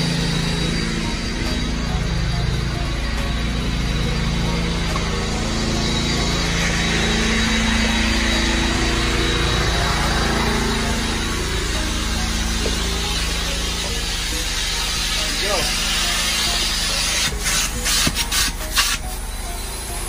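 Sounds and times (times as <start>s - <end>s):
carpet extractor drone and hiss: 0.0s - 20.0s.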